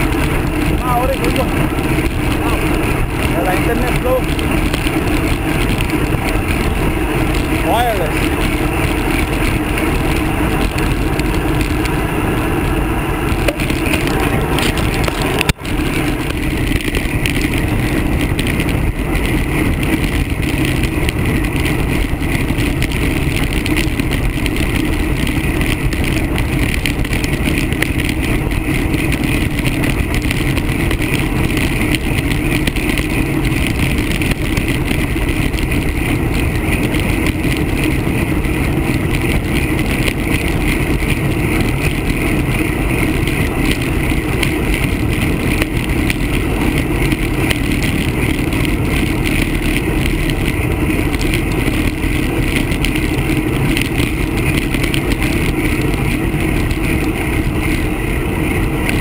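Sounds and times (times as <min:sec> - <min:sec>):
tyres humming on asphalt: 0:00.0 - 0:59.0
wind rush on microphone: 0:00.0 - 0:59.0.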